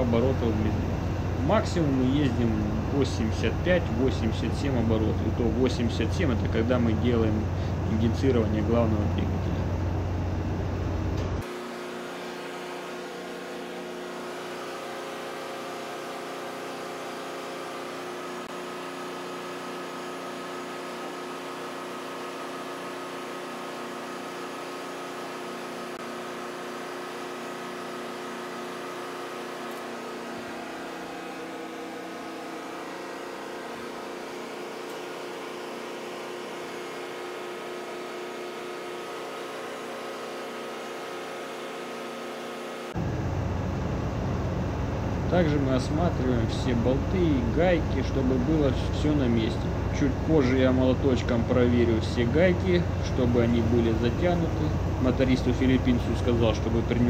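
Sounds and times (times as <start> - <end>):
engine-room machinery hum: 0.0 - 57.0.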